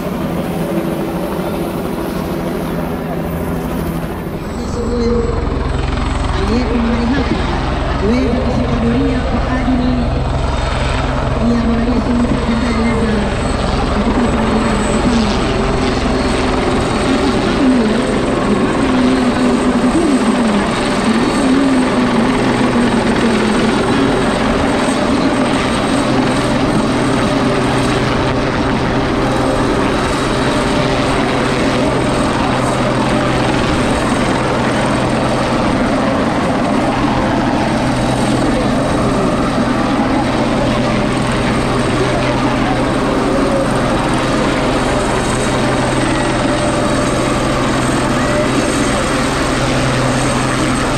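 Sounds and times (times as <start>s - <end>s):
helicopter rotor blades beating: 0.0s - 50.9s
turbine whine: 0.0s - 50.9s.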